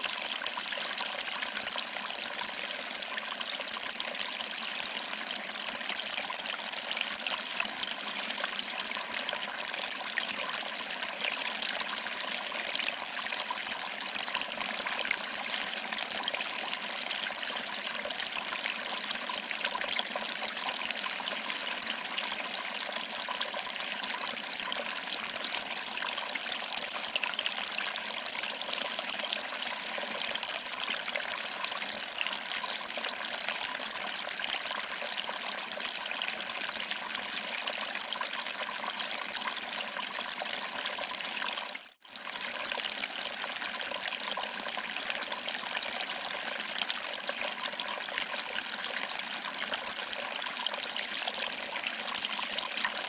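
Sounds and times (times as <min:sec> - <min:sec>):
water trickling over rocks: 0:00.0 - 0:53.0.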